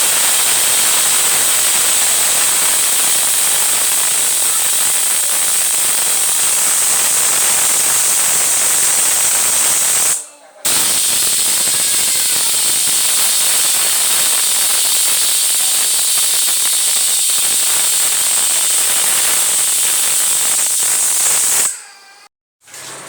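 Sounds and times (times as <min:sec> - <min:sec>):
pressure cooker whistle hissing: 0:00.0 - 0:21.9.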